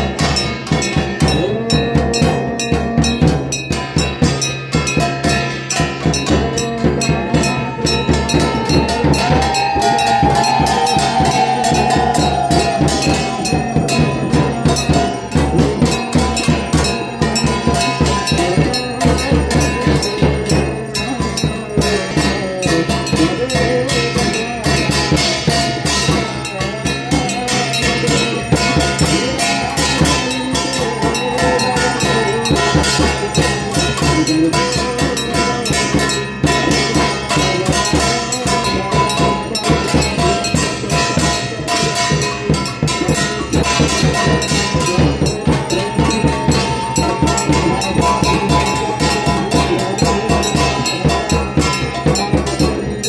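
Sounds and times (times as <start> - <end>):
fast percussion music: 0.0 - 53.0
ringing bell strikes: 0.0 - 53.0.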